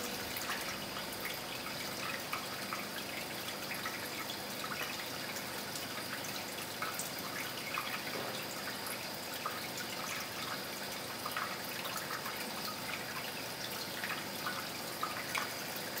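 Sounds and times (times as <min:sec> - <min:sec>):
aquarium water trickling: 0:00.0 - 0:16.0.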